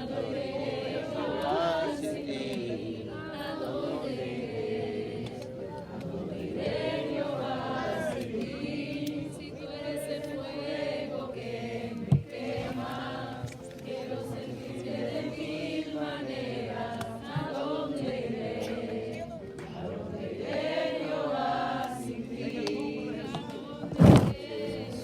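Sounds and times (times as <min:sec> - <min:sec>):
group singing and praying: 0:00.0 - 0:25.0.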